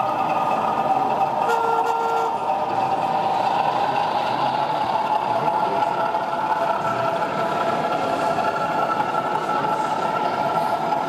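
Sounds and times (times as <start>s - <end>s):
model train motor hum: 0.0s - 11.0s.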